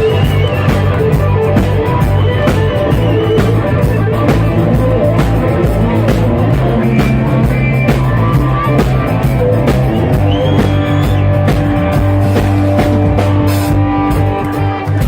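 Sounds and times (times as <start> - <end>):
bass guitar: 0.0 - 15.0
drum kit beat: 0.0 - 15.0
guitar: 0.0 - 15.0.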